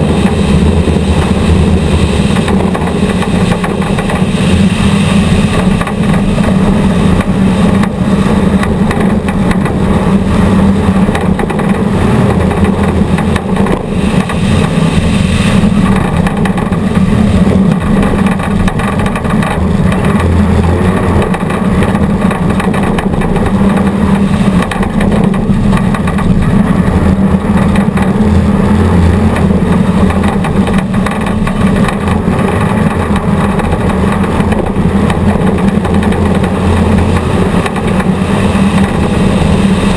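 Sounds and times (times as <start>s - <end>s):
race vehicle engine running hard: 0.0s - 39.9s
rough road and drivetrain noise: 0.0s - 39.9s.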